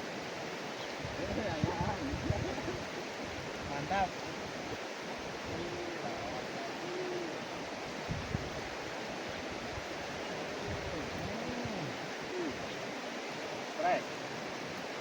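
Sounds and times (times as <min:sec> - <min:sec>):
river current rushing: 0:00.0 - 0:15.0.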